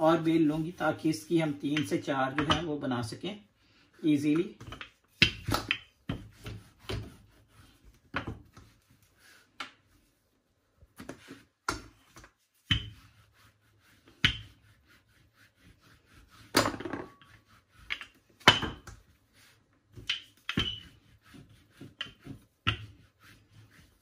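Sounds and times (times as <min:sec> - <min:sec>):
rolling pin rubbing pastry: 0:00.0 - 0:02.5, 0:03.9 - 0:24.0.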